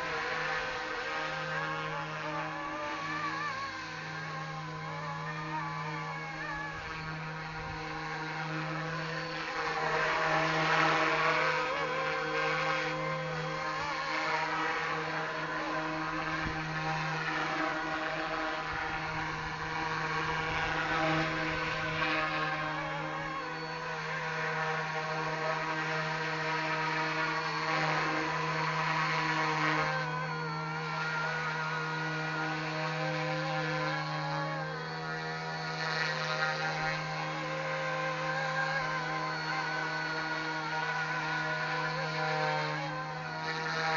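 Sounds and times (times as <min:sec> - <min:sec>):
rc helicopter motor whine: 0:00.0 - 0:43.9.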